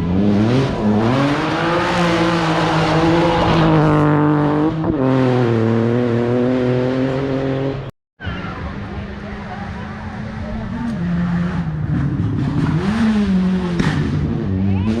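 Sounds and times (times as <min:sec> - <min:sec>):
rally car engine accelerating: 0:00.0 - 0:07.9, 0:09.1 - 0:15.0.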